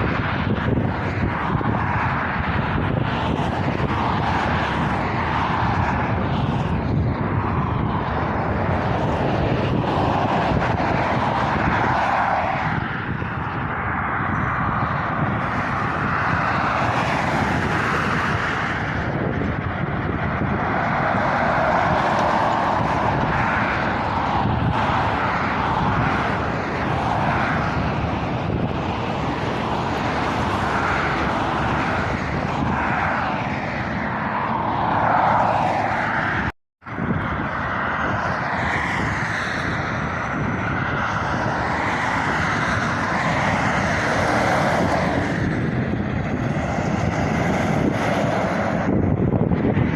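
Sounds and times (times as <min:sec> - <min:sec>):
road traffic passing: 0:00.0 - 0:49.9.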